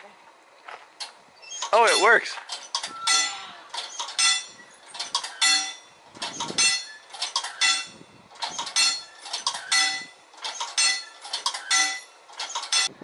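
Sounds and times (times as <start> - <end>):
crossing signal bell clanging: 1.8 - 2.4, 3.0 - 12.9.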